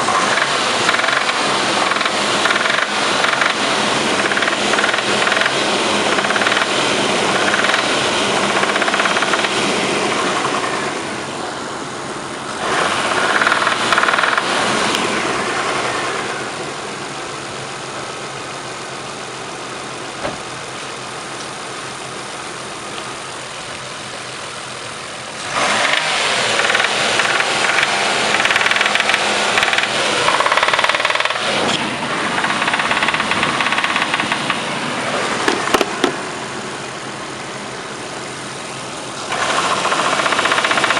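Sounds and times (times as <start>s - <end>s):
knocking car engine revving: 0.0s - 40.9s.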